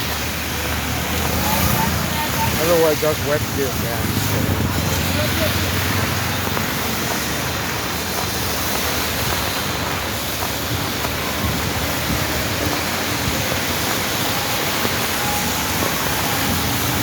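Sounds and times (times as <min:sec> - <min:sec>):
rain pouring down: 0:00.0 - 0:17.0.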